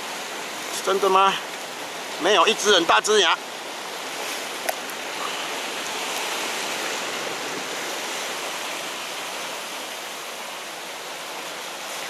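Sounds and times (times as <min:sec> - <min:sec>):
sea water washing against rocks: 0:00.0 - 0:12.0.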